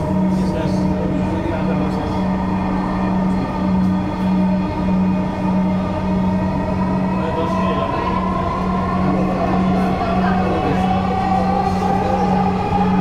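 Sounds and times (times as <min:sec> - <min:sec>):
train high whine: 0:00.0 - 0:13.0
train low hum: 0:00.0 - 0:13.0.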